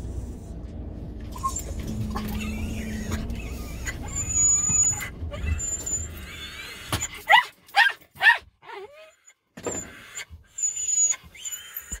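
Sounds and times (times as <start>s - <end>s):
dog yelping: 1.3s - 12.0s.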